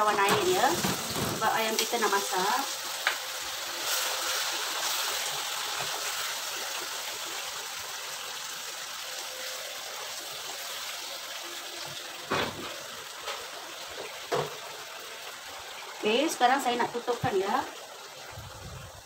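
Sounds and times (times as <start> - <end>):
water sizzling in a hot wok: 0.0 - 19.0.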